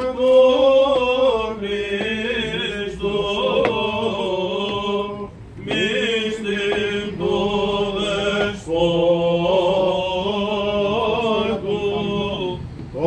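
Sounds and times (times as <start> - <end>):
person chanting melismatic melody: 0.0 - 13.0.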